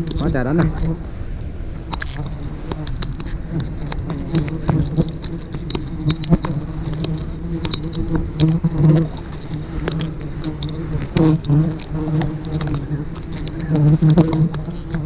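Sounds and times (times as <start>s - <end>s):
honeybees buzzing: 0.0s - 15.0s
sharp clicks and crackles: 1.8s - 15.0s.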